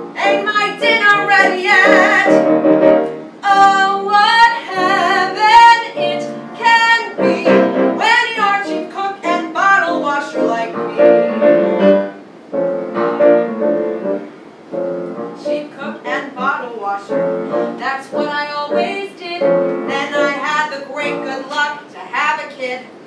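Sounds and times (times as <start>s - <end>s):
woman singing with vibrato: 0.0s - 2.5s, 3.4s - 11.9s, 15.3s - 22.9s
piano accompaniment: 0.0s - 21.9s.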